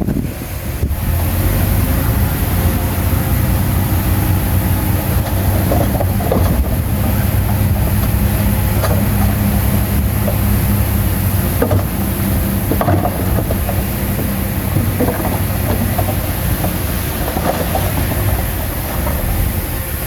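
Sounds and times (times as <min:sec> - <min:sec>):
bulldozer diesel engine running: 0:00.0 - 0:20.0
metallic clanks and rattles: 0:03.3 - 0:20.0.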